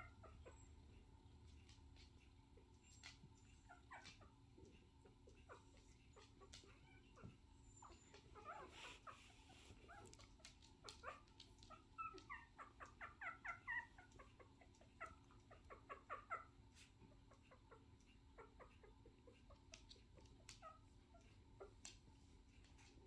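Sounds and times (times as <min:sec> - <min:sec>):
young pet squeaking and whimpering: 0:00.0 - 0:23.0.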